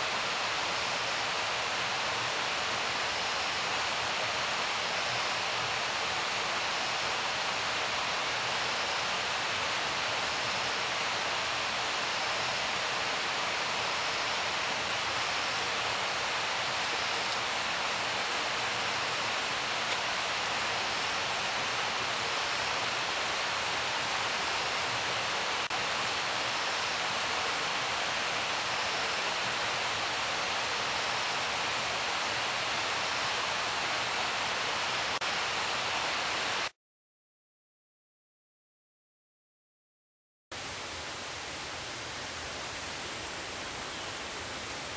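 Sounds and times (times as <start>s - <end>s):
steady hiss: 0.0s - 36.7s, 40.6s - 44.9s.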